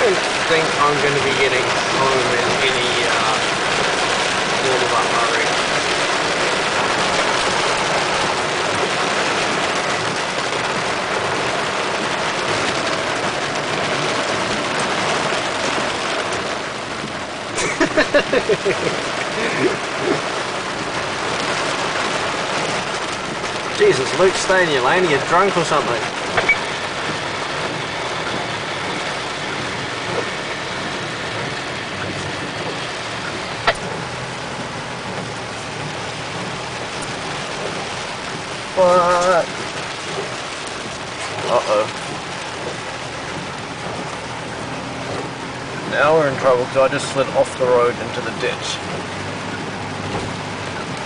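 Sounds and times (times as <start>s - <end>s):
tyres rushing on wet road: 0.0s - 51.0s
vehicle engine: 0.0s - 51.0s.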